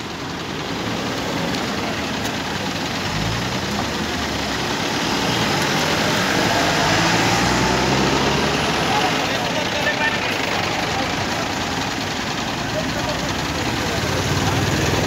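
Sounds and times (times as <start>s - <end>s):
crane diesel engine running: 0.0s - 15.0s.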